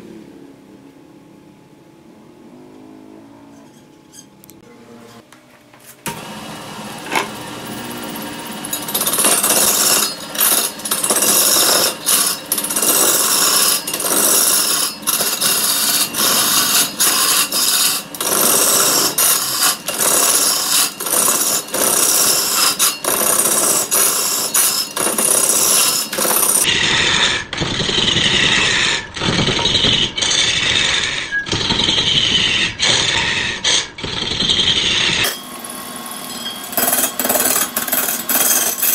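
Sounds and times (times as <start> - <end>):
wood lathe running: 6.1 - 38.9
tool cutting bark on spinning log: 7.0 - 38.9.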